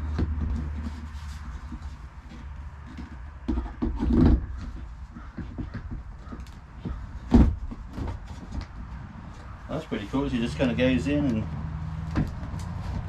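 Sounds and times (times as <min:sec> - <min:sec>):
decoration parts knocking and scraping: 0:00.0 - 0:13.0.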